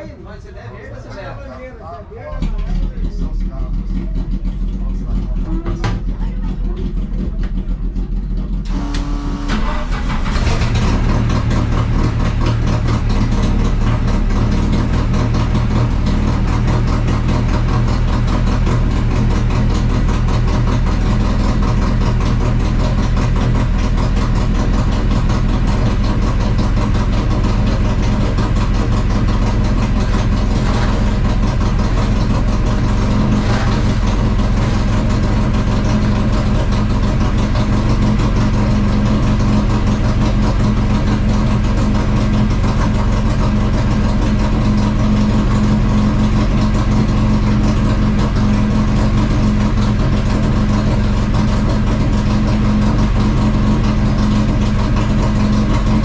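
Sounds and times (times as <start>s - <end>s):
race car engine from inside: 2.4s - 56.0s.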